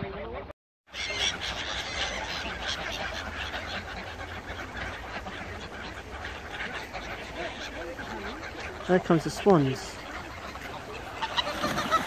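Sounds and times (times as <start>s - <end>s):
gulls geese and ducks calling: 0.9s - 12.0s.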